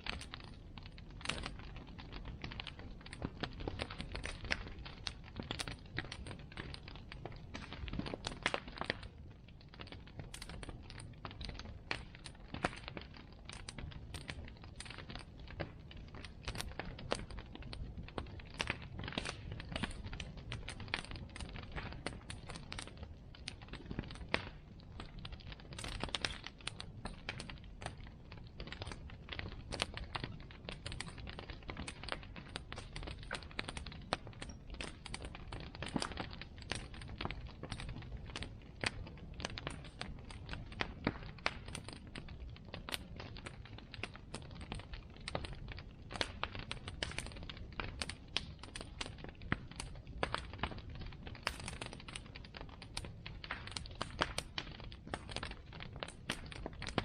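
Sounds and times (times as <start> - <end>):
bonfire crackling and popping: 0.0 - 57.0
low fire rumble: 0.0 - 57.0.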